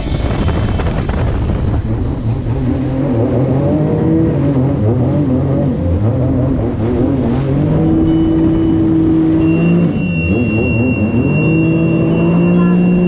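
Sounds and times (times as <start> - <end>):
jet ski engine running: 0.0 - 13.0
rushing water: 0.0 - 13.0
wind: 0.0 - 13.0.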